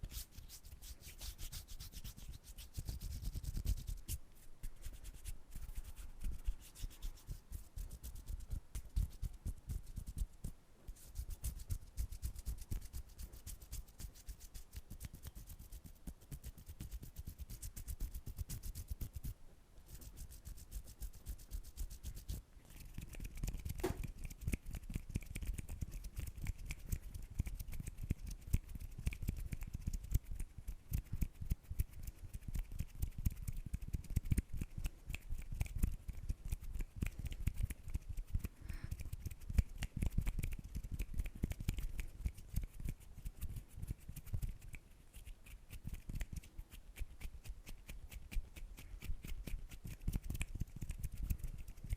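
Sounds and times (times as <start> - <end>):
hands rubbing and scratching: 0.0 - 51.9.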